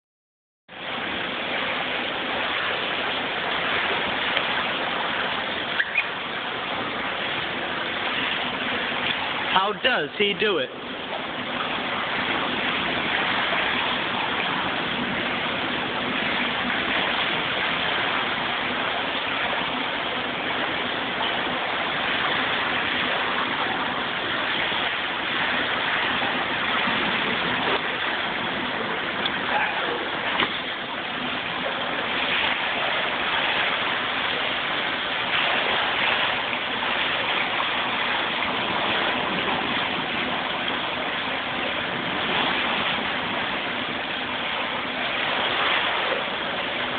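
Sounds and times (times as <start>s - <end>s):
swimmer splashing in a pool: 0.7s - 46.9s.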